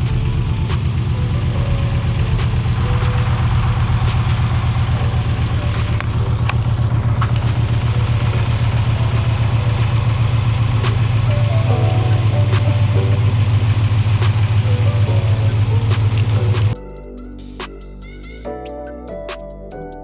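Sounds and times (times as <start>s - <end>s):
engine idling: 0.0s - 16.8s.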